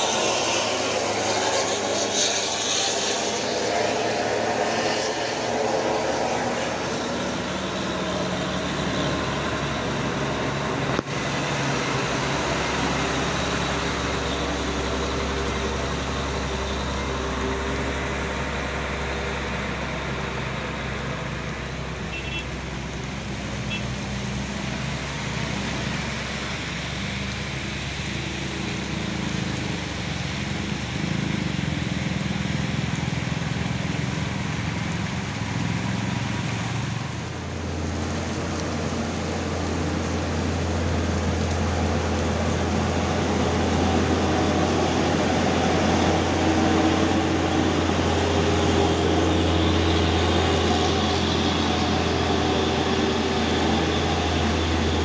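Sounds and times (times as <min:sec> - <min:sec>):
diesel truck engine labouring: 0:00.0 - 0:55.0.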